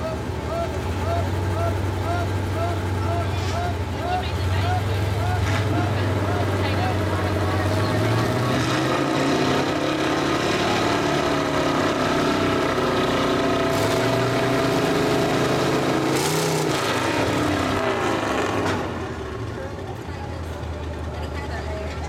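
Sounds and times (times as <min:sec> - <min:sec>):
truck engines running hard: 0:00.0 - 0:22.0.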